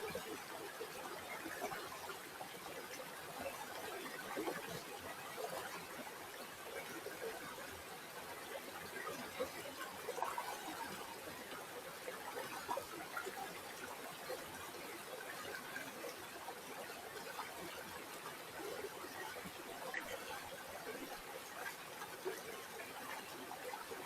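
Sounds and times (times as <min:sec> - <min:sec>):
river water gurgling: 0:00.0 - 0:24.0.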